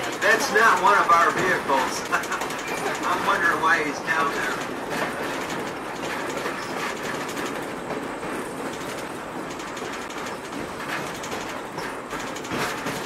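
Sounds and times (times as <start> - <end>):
train wheels rumbling on rail: 0.0 - 13.0
wheels clicking over rail joints: 0.0 - 13.0.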